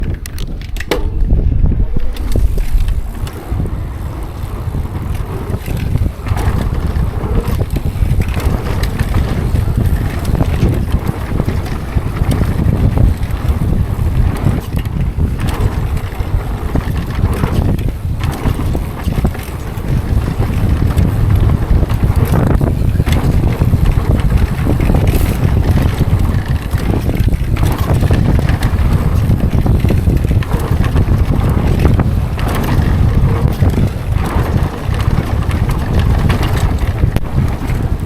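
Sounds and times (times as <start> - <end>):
bike clicks and rattles: 0.0 - 38.0
tyres rolling on dirt trail: 0.0 - 38.0
wind buffeting microphone: 0.0 - 38.0.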